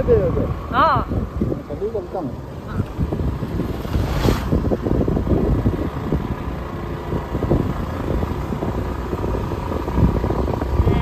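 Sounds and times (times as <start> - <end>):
motorbike engine running: 0.0 - 11.0
wind buffeting microphone: 0.0 - 11.0.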